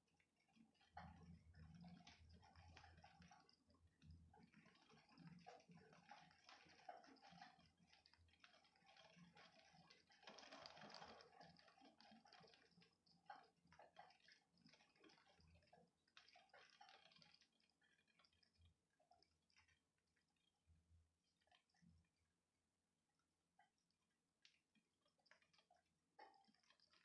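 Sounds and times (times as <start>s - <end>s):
rain drips: 0.0s - 19.8s, 24.4s - 27.0s.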